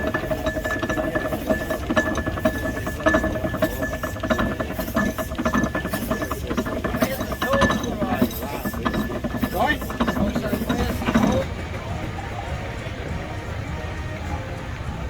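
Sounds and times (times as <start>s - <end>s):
gearing clanking and clicking: 0.0s - 12.9s.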